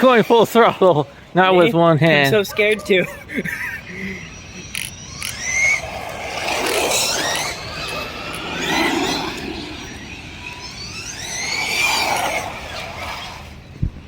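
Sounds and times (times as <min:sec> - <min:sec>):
electric motor whining: 0:01.6 - 0:13.8.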